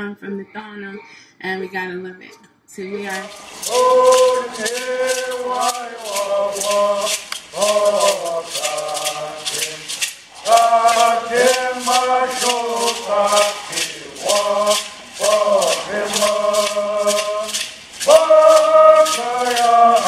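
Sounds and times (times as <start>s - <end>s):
rattle shaken in a beat: 3.0s - 20.0s
voices chanting together: 3.0s - 20.0s.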